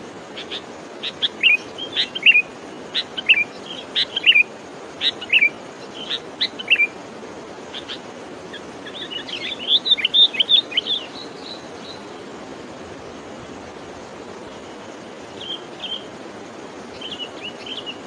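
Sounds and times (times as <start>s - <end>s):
steady outdoor hiss: 0.0s - 18.0s
songbird chirping: 0.4s - 7.0s, 7.7s - 12.4s, 14.3s - 16.2s, 16.8s - 18.0s.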